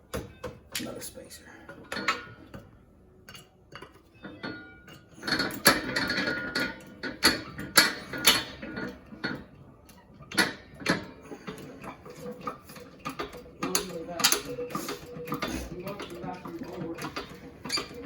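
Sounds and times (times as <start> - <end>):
hydraulic press jack pumping: 3.3 - 18.0.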